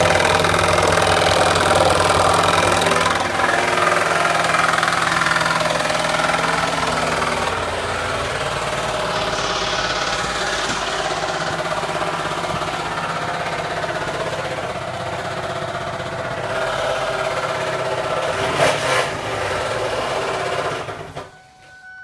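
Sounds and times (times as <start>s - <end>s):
car engine knocking: 0.0s - 21.3s.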